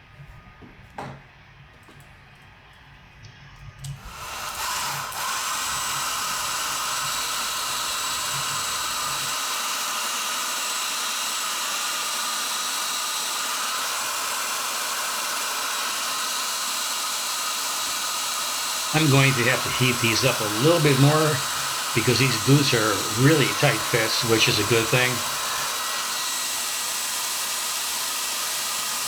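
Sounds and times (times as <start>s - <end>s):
heat gun blowing hiss: 4.0s - 29.0s.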